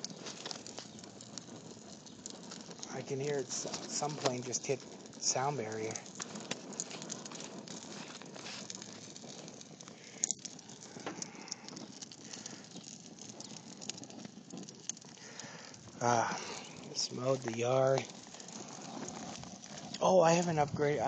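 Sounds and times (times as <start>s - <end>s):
sharp pops: 0.0s - 20.6s
patties sizzling on a grill: 0.0s - 21.0s.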